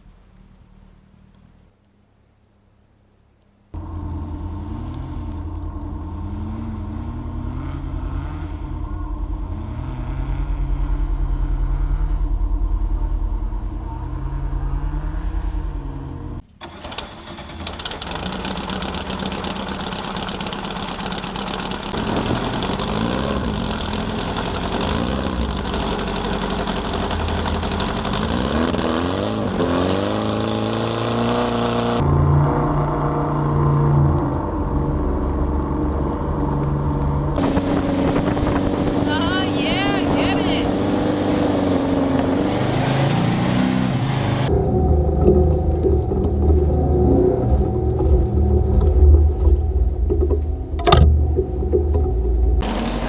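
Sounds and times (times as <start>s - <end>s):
car engine revving through gears: 3.8s - 53.0s.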